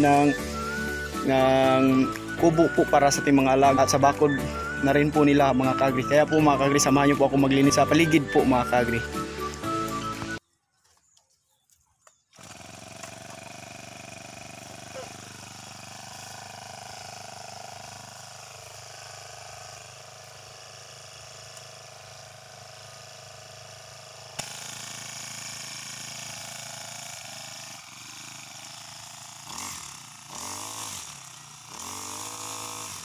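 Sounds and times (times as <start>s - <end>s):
brush cutter engine running: 0.0s - 10.4s, 12.2s - 33.0s.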